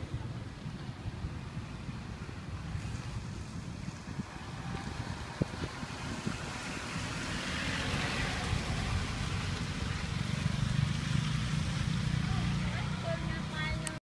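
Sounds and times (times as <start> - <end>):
street rumble and hiss: 0.0 - 14.0.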